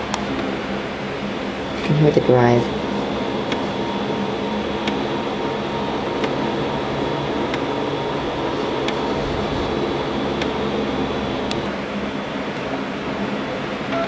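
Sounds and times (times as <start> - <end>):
floppy drive whirring: 0.0 - 14.0.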